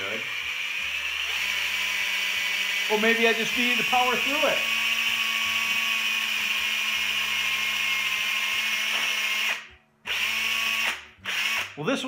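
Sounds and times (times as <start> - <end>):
cordless drill motor whining: 0.0 - 11.8.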